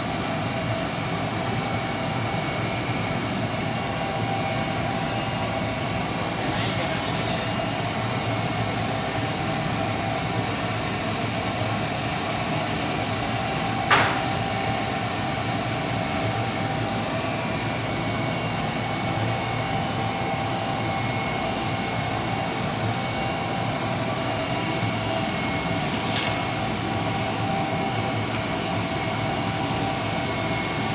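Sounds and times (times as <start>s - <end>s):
steam boiler running: 0.0s - 30.9s.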